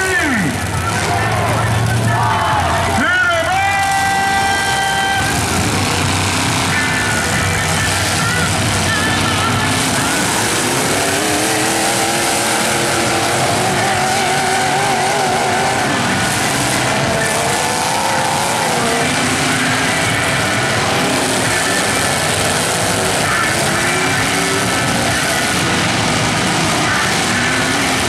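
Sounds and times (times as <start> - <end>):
truck engines revving: 0.0 - 28.0.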